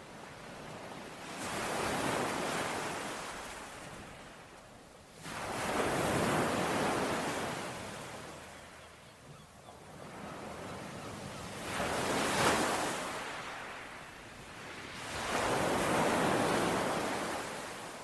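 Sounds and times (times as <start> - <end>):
sea waves breaking on shore: 0.0 - 8.9, 9.9 - 18.0.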